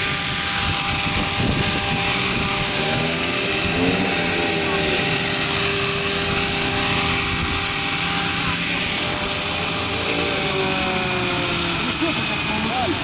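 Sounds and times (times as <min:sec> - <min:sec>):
model helicopter whine: 0:00.0 - 0:13.0.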